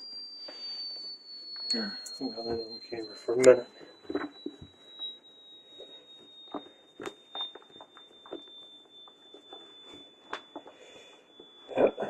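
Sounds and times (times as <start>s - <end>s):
small clicks and crackles: 0.0s - 11.7s
high-pitched tone drifting lower: 0.0s - 12.0s.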